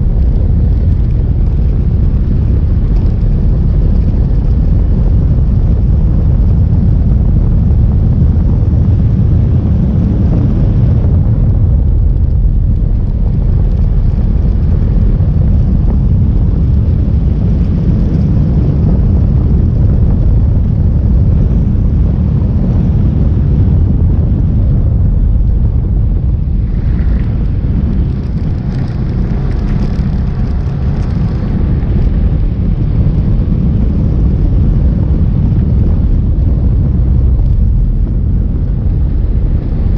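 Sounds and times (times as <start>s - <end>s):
vehicle road and wind rumble: 0.0s - 39.9s.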